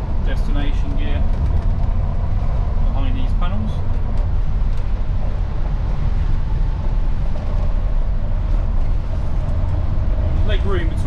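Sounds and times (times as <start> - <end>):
bus engine low rumble: 0.0 - 11.0.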